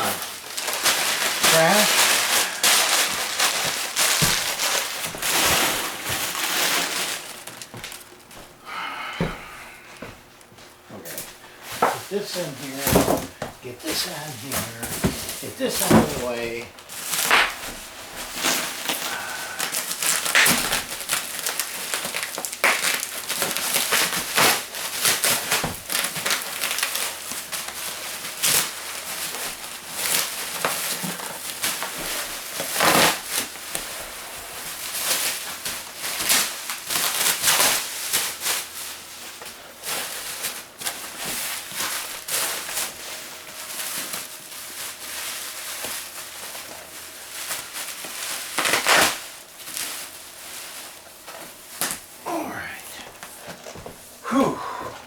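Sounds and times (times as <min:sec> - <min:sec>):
packing material crinkling: 0:00.0 - 0:08.4, 0:11.0 - 0:55.0
foam packing peanuts rustling: 0:00.0 - 0:09.0, 0:11.0 - 0:55.0.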